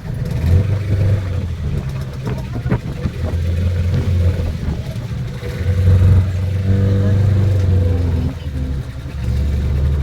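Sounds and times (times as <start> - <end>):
boat engine low drone: 0.0 - 10.0.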